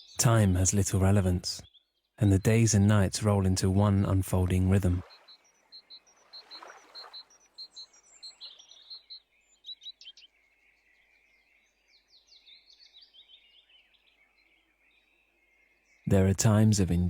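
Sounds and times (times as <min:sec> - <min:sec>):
bird chirping: 0:00.0 - 0:03.1, 0:03.7 - 0:17.0.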